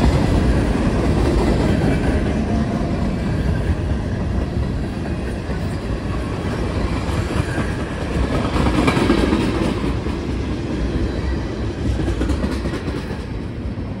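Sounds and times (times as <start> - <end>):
freight train wheels clattering: 0.0 - 14.0.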